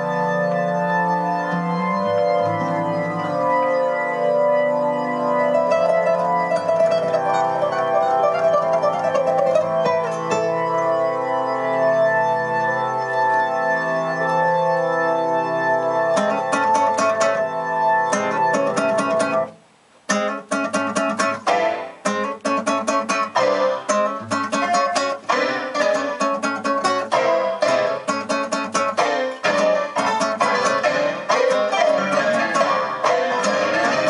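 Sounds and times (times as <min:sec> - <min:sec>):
fast plucked or keyboard notes: 0:00.0 - 0:34.0
organ-like chords: 0:00.0 - 0:34.0.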